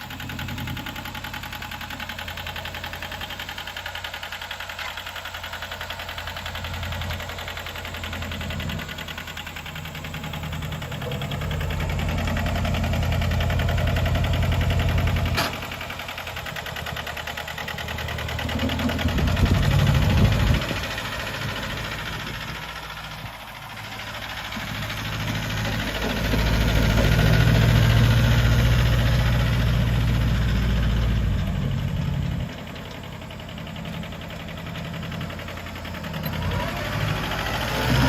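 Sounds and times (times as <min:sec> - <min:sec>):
tractor diesel engine clattering: 0:00.0 - 0:38.0.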